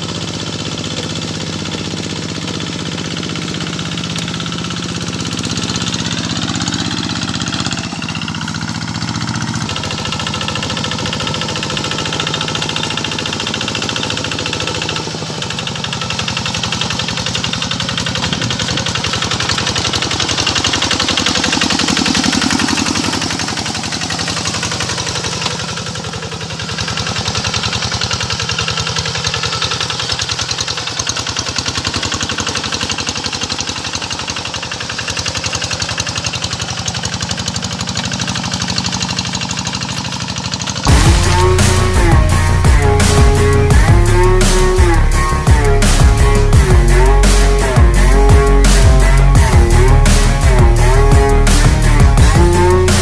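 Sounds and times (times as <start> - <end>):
tractor diesel engine chugging: 0.0 - 53.0.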